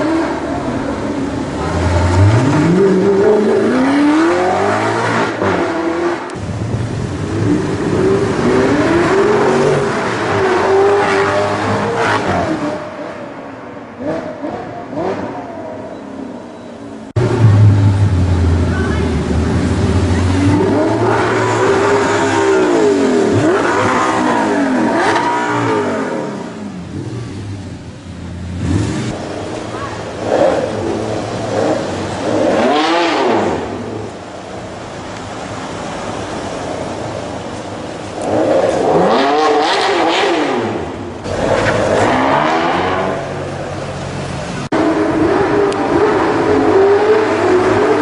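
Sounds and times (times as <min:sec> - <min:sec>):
supercar engine revving: 0:00.0 - 0:12.9, 0:17.1 - 0:48.0.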